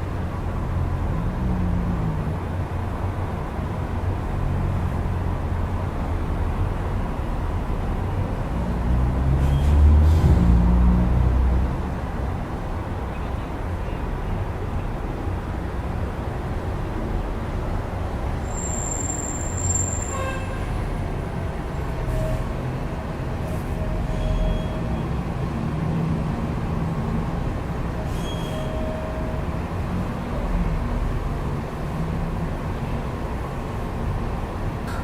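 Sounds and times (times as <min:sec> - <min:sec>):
city street traffic rumble: 0:00.0 - 0:35.0.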